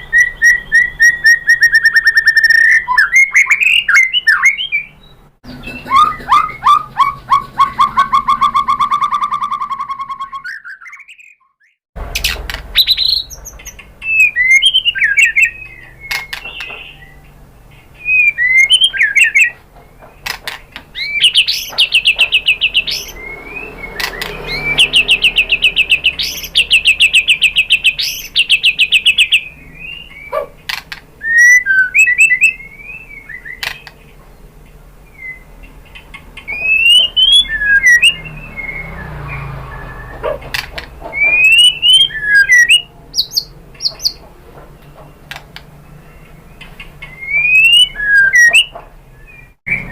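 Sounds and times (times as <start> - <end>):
bird singing trills and whistles: 0.0 - 44.2, 44.9 - 49.9.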